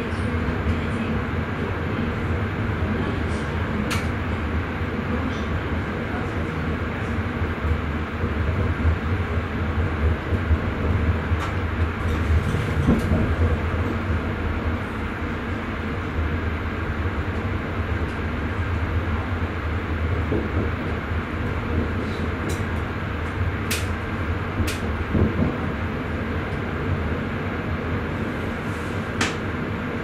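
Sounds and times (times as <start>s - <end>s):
electric train running rumble: 0.0s - 30.0s.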